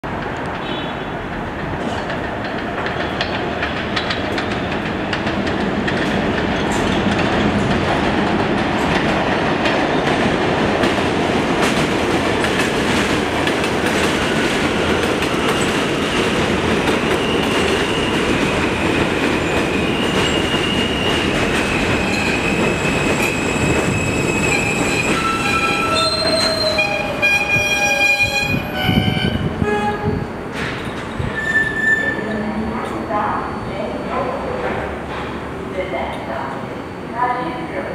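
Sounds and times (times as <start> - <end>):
train wheels rumbling on track: 0.1 - 36.7.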